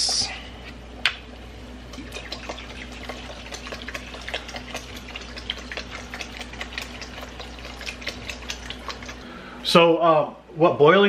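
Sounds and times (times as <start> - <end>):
water boiling in a pot: 0.0 - 9.6.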